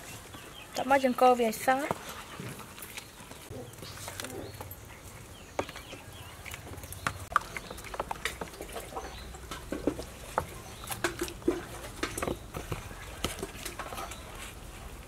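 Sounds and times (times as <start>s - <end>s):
wet batter squelching: 0.0s - 15.0s.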